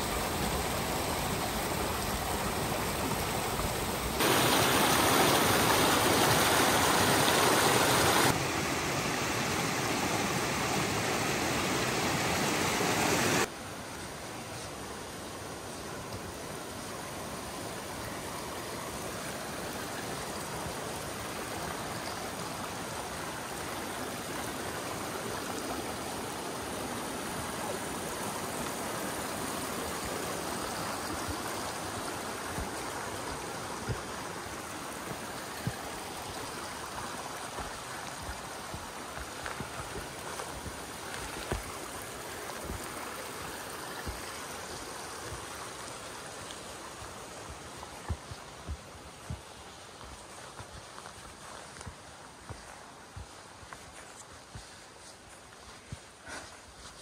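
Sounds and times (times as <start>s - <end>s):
mountain stream rushing: 0.0s - 57.0s.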